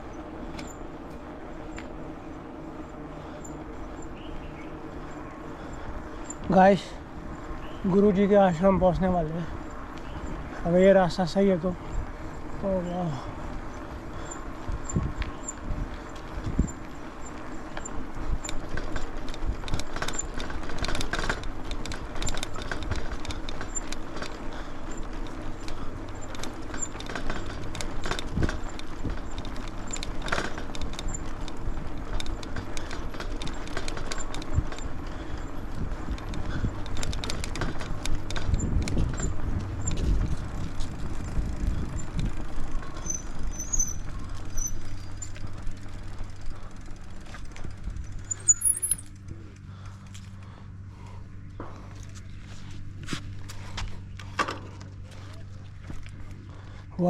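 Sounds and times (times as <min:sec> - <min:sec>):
bike rattles and knocks: 0:00.0 - 0:57.0
bike tyres rolling rumble: 0:00.0 - 0:57.0.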